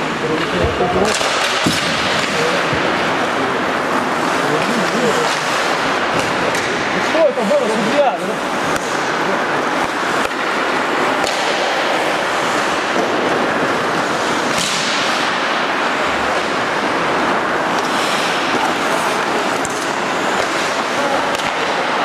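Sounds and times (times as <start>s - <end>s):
hockey sticks clacking: 0.0s - 22.0s
skate blades scraping ice: 0.0s - 22.0s.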